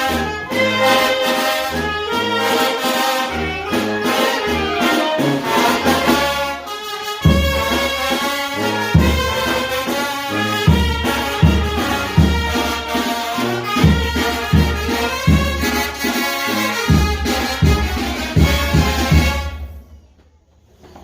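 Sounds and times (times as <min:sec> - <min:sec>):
brass band playing: 0:00.0 - 0:19.8.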